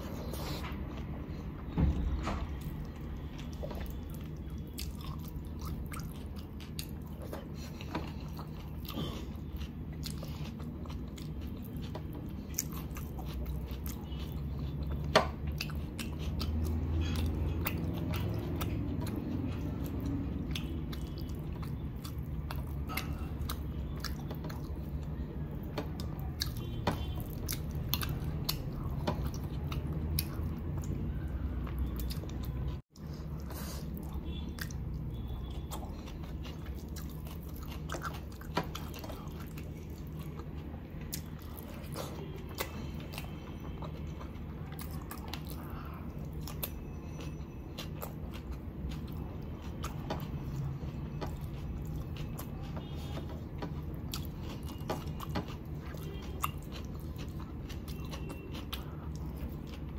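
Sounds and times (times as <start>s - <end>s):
chewing and biting food: 0.0s - 59.9s.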